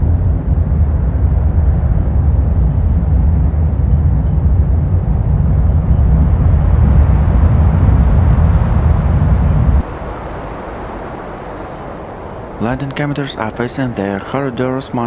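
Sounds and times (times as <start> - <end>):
vehicle engine and tyre rumble: 0.0 - 13.2.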